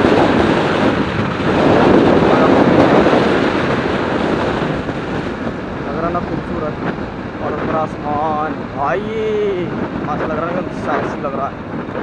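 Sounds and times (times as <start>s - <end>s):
road and traffic noise: 0.0s - 12.0s
wind buffeting microphone: 0.0s - 12.0s.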